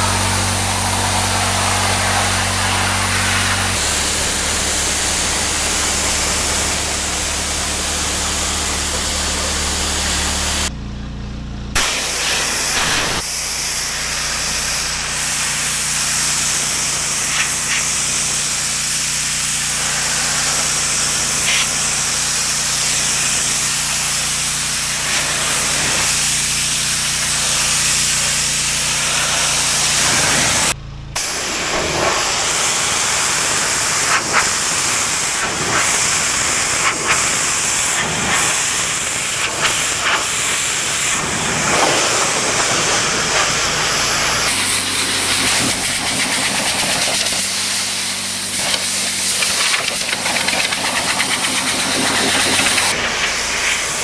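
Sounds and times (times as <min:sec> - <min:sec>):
pressure washer water hiss: 0:00.0 - 0:10.7, 0:11.8 - 0:54.0
motor humming: 0:00.0 - 0:54.0.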